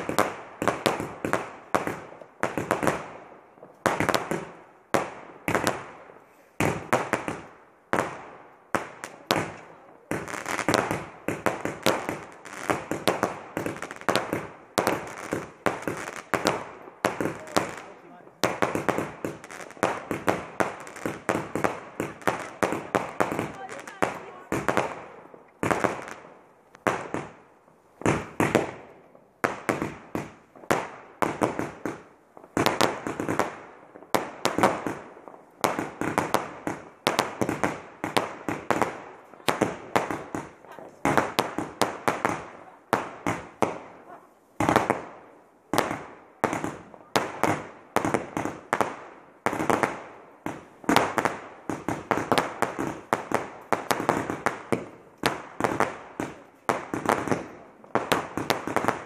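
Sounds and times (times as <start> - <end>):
fireworks banging: 0.0 - 59.0.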